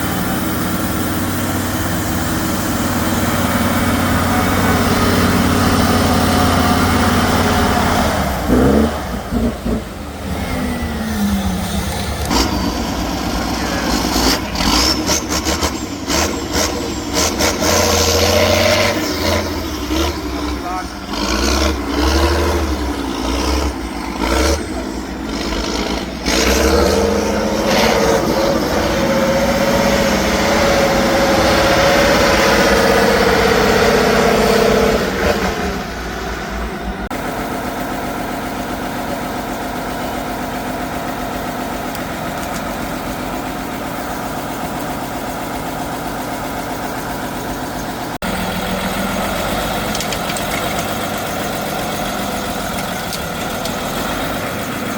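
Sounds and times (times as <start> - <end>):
off-road truck engine revving: 0.0 - 54.9.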